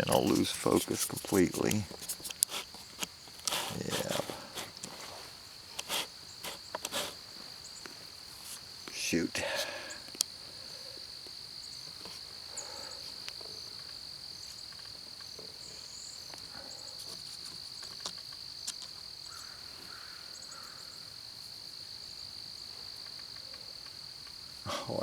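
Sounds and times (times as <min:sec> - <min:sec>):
crickets chorus: 0:00.0 - 0:25.0.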